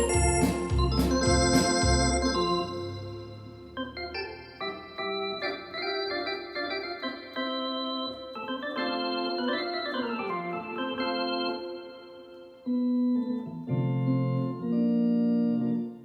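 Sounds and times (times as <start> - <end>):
synthesizer organ-like chords: 0.0 - 16.0.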